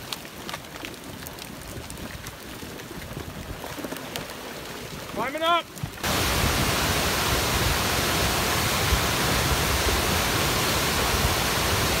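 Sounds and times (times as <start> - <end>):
muddy flood water rushing: 0.0 - 12.0.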